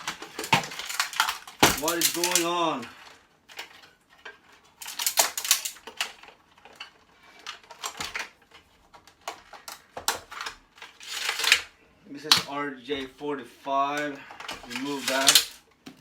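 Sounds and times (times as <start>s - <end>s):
plastic and metal parts clattering: 0.0s - 13.2s, 13.9s - 16.0s.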